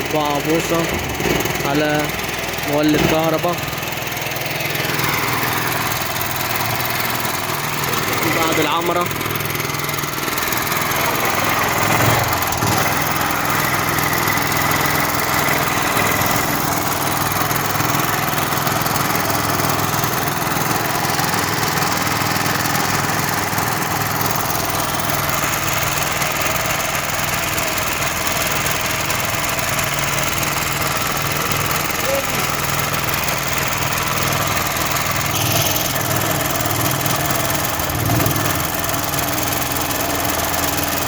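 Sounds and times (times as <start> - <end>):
pump engine running: 0.0 - 41.0.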